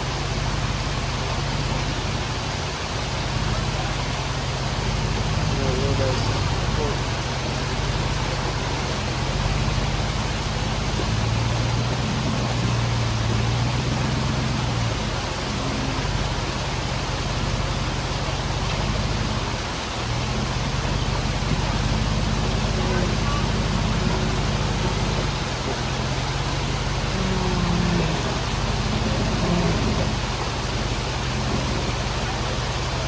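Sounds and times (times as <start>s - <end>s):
engine rumbling at low revs: 0.0s - 33.0s.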